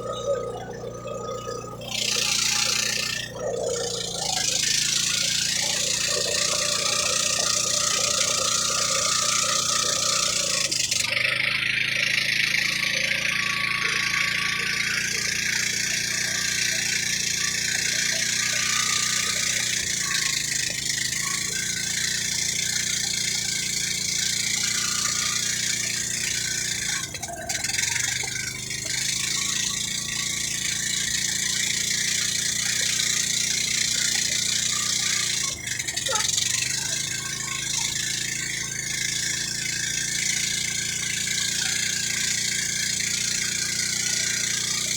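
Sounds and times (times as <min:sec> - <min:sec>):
motorboat engine running: 0:00.0 - 0:44.9.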